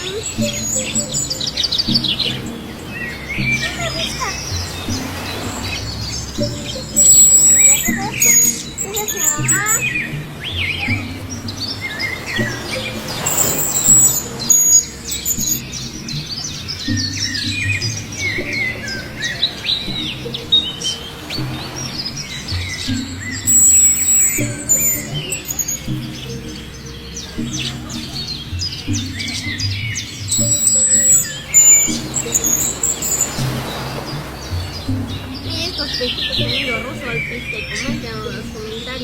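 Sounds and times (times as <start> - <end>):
budgerigars chirping: 0.0 - 39.0
music playing: 0.0 - 39.0.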